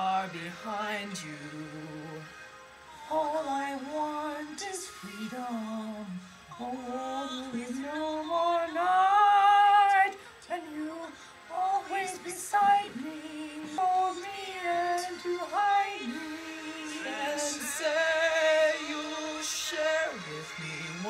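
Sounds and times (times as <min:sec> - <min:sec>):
man singing: 0:00.0 - 0:02.4, 0:03.1 - 0:21.0
woman singing: 0:03.0 - 0:21.0.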